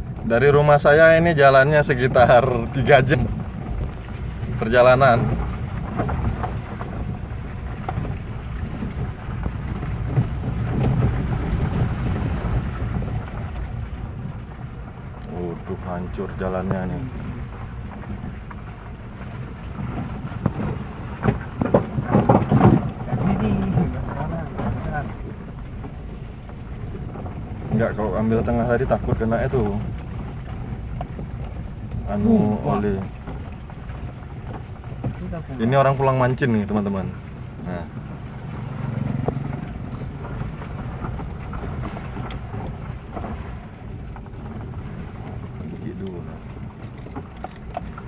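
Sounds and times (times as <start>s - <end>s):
knocks and rattles: 0.0s - 48.0s
vehicle engine running: 0.0s - 48.0s.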